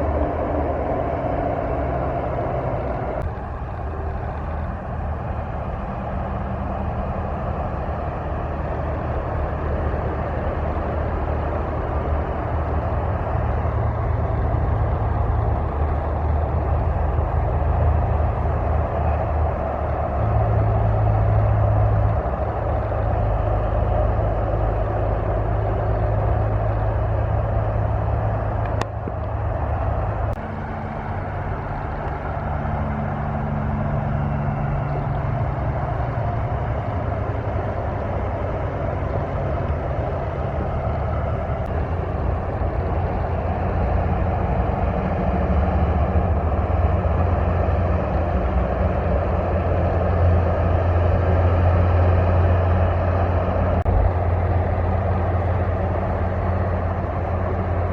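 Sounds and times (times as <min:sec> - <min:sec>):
tyre and road noise: 0:00.0 - 0:57.9
vehicle engine running: 0:00.0 - 0:57.9.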